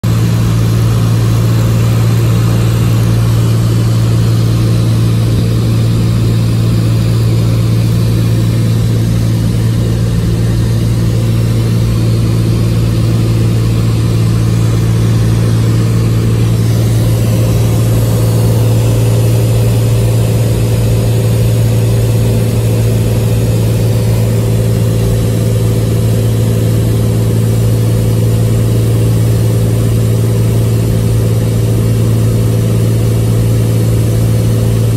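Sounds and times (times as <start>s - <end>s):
aircraft engine and propeller hum: 0.0s - 34.9s.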